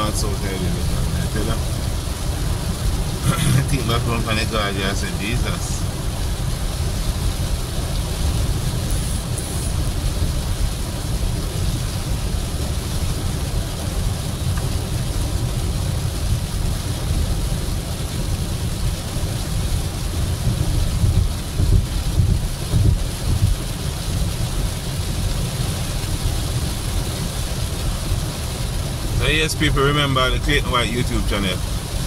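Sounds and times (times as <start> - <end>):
car road rumble: 0.0 - 32.0
tyres hissing on wet road: 0.0 - 32.0.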